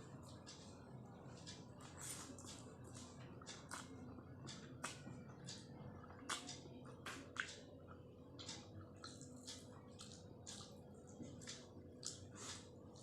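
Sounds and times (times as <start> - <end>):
wet chewing: 1.4 - 13.0.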